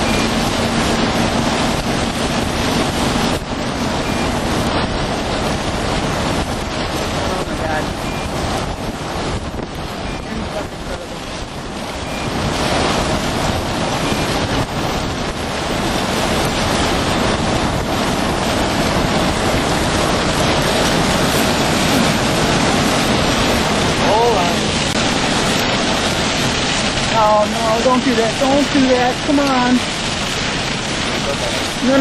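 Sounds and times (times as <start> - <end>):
strong wind buffeting microphone: 0.0 - 32.0.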